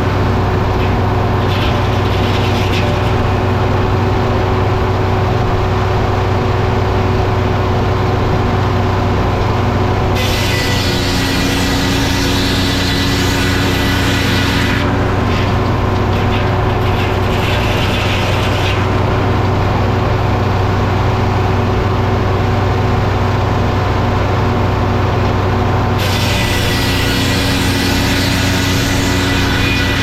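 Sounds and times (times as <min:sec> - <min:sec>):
sawmill engine drone: 0:00.0 - 0:30.0.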